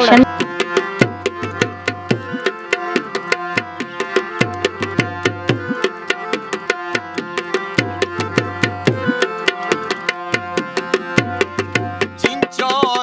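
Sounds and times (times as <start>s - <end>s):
dholak drum rhythm: 0.0s - 13.0s
harmonium chords: 0.0s - 13.0s.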